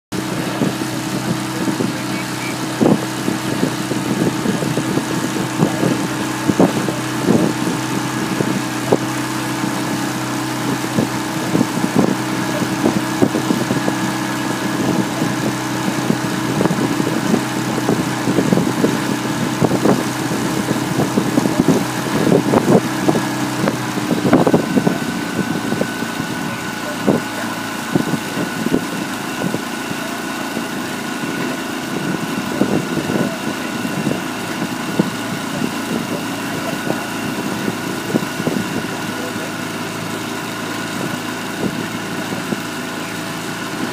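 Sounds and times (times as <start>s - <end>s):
outboard motor running: 0.1s - 43.9s.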